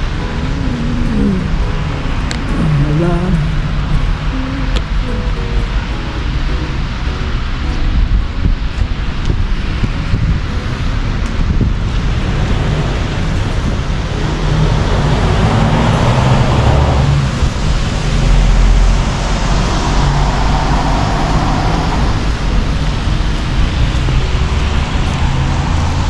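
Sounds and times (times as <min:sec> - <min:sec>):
road traffic hiss and rumble: 0:00.0 - 0:26.0.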